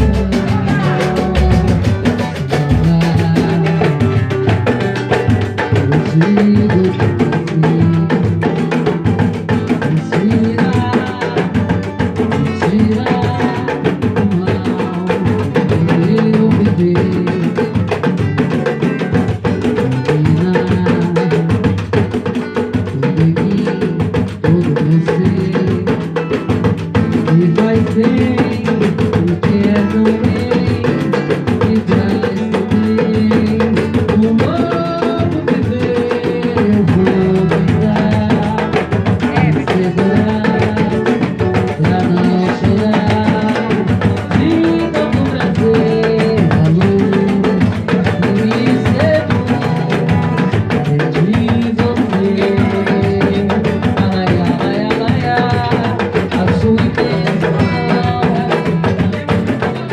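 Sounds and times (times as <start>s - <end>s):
drums and percussion rhythm: 0.0s - 59.9s.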